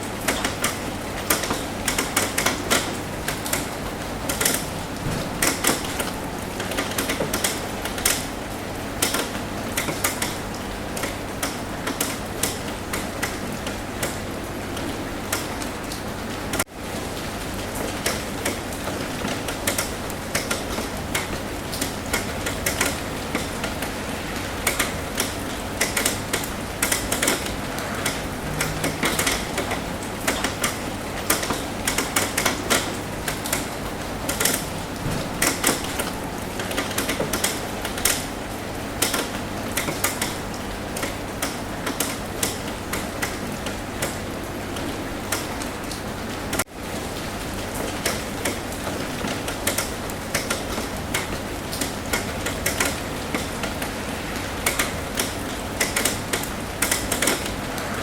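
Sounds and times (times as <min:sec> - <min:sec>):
hiss of rainfall: 0:00.0 - 0:58.0
rain drops tapping on a roof: 0:00.0 - 0:58.0.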